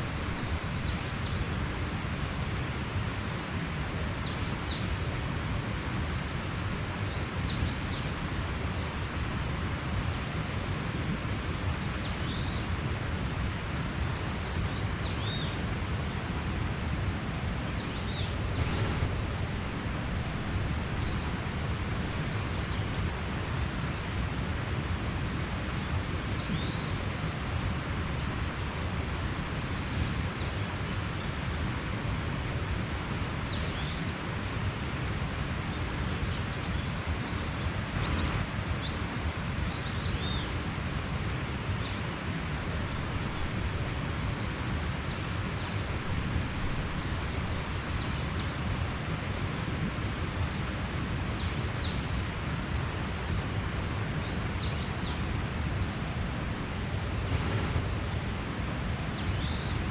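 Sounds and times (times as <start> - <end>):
stream rushing: 0.0 - 59.9.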